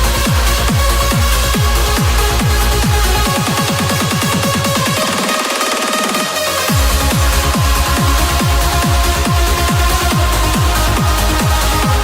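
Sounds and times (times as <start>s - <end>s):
deep bass: 0.0s - 5.0s, 6.4s - 12.0s
kick drum beating: 0.0s - 5.1s, 6.7s - 12.0s
held synth chords: 0.0s - 12.0s.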